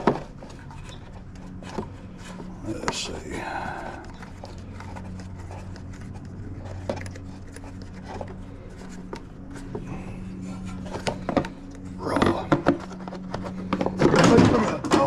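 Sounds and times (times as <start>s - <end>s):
hose rubbing and scraping: 0.0s - 14.4s
low background hum: 0.0s - 15.0s.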